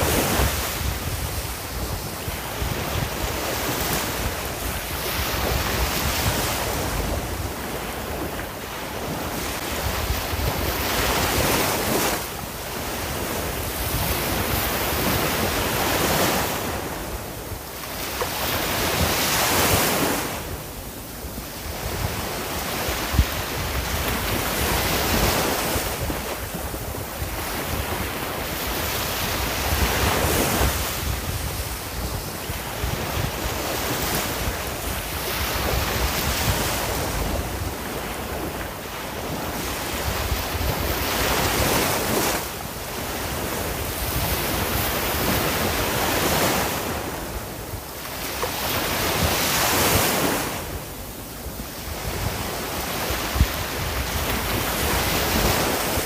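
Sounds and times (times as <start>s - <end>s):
sea waves breaking on shore: 0.0s - 56.0s
wind on microphone: 0.0s - 56.0s.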